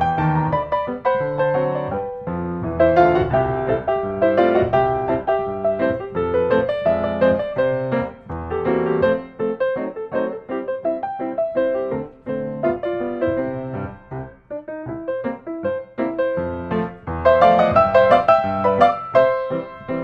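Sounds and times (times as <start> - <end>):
ragtime piano tune: 0.0 - 20.0.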